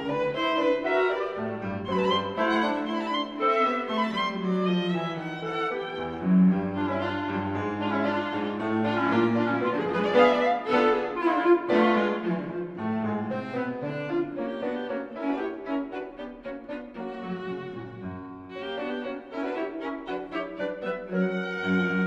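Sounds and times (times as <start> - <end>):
bowed strings and violin melody: 0.0 - 22.0.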